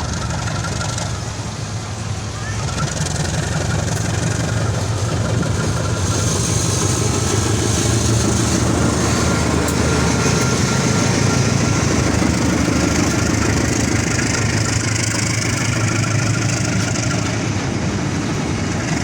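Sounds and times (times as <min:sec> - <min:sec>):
diesel locomotive engine hum: 0:00.0 - 0:19.0.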